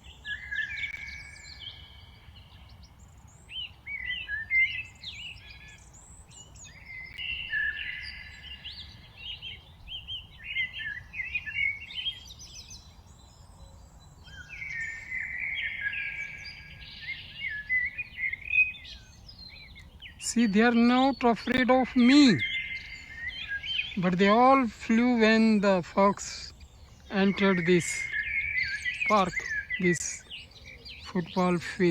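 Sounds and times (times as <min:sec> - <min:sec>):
songbirds chirping and singing: 0:00.0 - 0:31.9.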